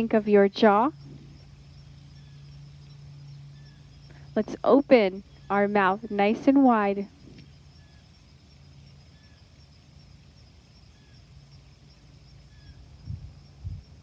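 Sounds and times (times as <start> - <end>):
faint chirps: 0.0 - 14.0
insect trill: 0.0 - 14.0
low steady hum: 0.0 - 14.0.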